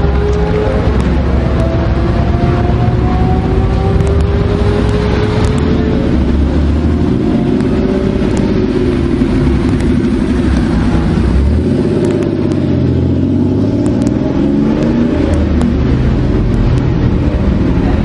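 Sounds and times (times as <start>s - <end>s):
sports car engines running: 0.0s - 18.0s.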